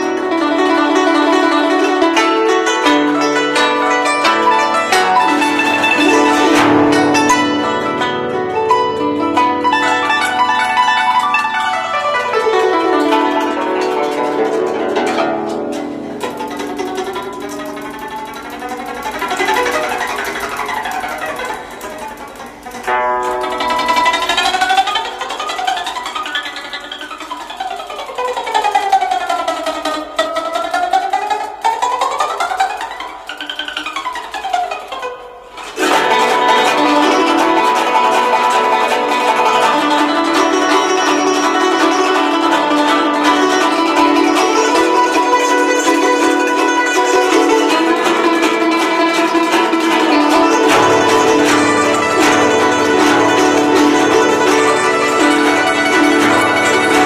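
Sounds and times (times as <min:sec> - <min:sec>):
plucked zither solo: 0:00.0 - 0:57.0.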